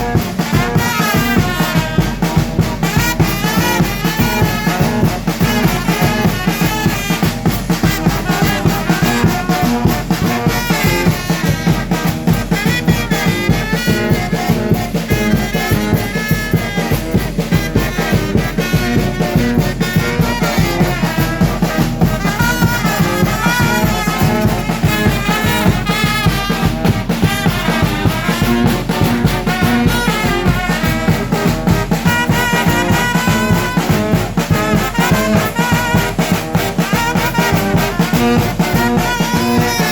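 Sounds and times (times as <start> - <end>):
brass band playing: 0.0 - 39.9
fast percussion beat: 0.0 - 39.9
trumpets and trombones: 0.0 - 39.9.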